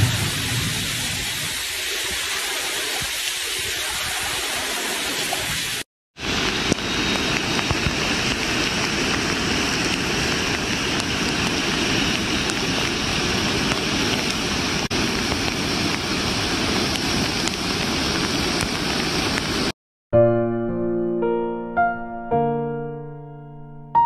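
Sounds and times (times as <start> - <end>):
floodwater rushing: 0.0 - 19.7
heavy rain pouring: 0.0 - 19.8.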